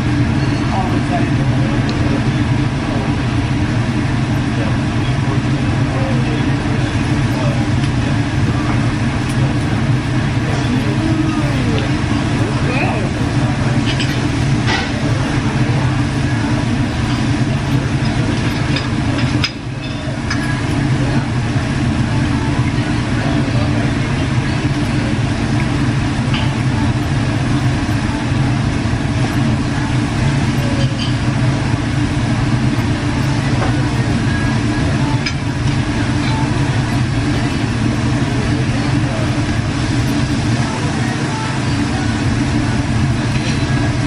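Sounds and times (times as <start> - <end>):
restaurant background rumble: 0.0 - 44.0.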